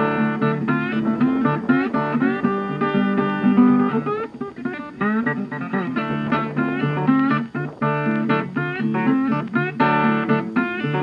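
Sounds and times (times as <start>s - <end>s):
guitar picking a melody: 0.0s - 11.0s.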